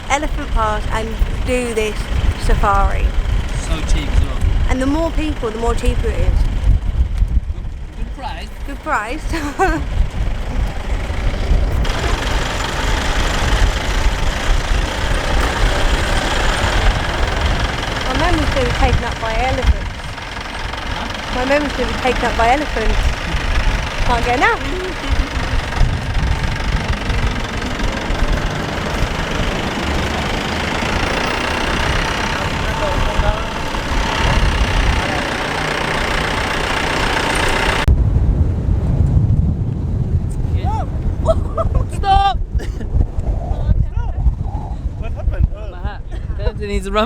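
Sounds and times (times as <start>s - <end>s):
jeep engine rumble: 0.0s - 47.0s
wind buffeting microphone: 0.0s - 47.0s.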